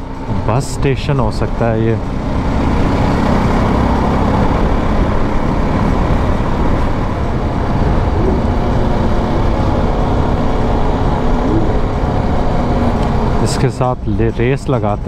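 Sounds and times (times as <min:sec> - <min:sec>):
motorcycle engine: 0:00.0 - 0:14.9
traffic noise: 0:00.0 - 0:15.0
wind rumble: 0:00.0 - 0:15.0.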